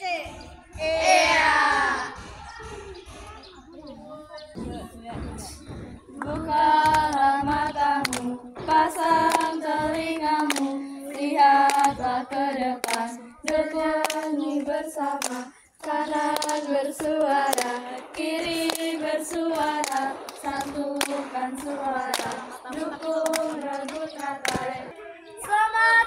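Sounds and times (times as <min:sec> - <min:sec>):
girls singing together: 0:00.7 - 0:02.3, 0:04.6 - 0:26.0
hand claps: 0:04.5 - 0:25.9.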